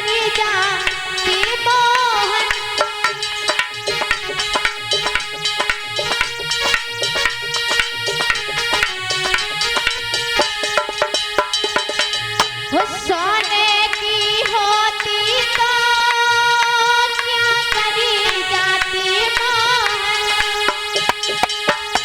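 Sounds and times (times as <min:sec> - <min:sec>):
devotional melody with wavering notes: 0:00.0 - 0:22.0
hand drum rhythm: 0:00.3 - 0:16.2, 0:17.7 - 0:22.0.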